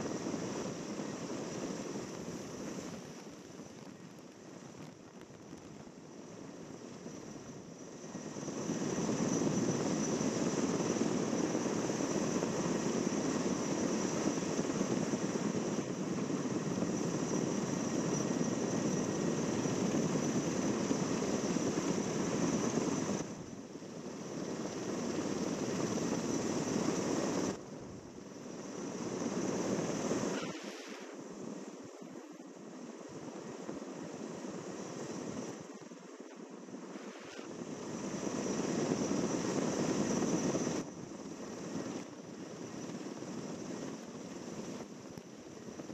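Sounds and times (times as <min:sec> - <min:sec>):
helicopter rotor and engines droning: 0:00.0 - 0:45.9.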